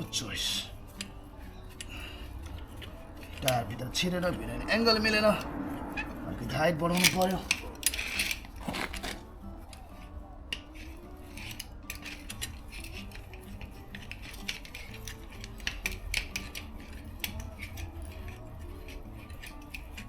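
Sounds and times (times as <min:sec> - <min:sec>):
car jack clicking: 0:00.0 - 0:04.4, 0:06.8 - 0:20.0
low hum: 0:00.0 - 0:20.0.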